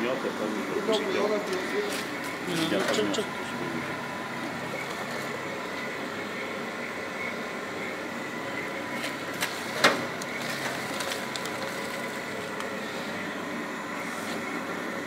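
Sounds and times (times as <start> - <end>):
machinery humming and whining: 0.0 - 15.0.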